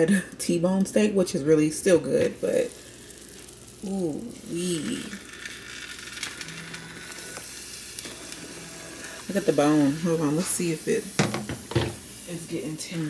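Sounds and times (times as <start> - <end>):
slow cooker crackling sizzle: 0.1 - 13.0.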